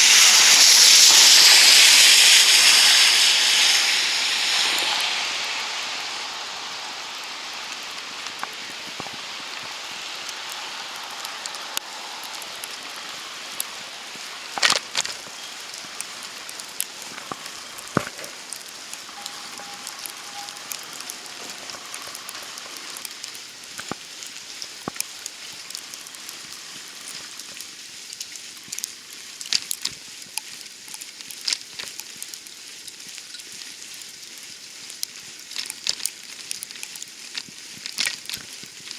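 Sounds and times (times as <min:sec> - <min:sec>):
steady snowstorm hiss: 0:00.0 - 0:38.9
wet snow ticking and tapping: 0:00.0 - 0:38.9.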